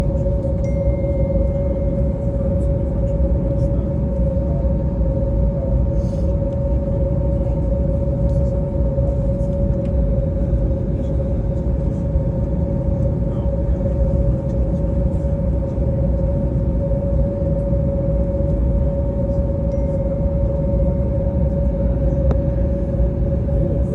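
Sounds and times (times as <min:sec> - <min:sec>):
constant mid-pitched hum: 0:00.0 - 0:23.9.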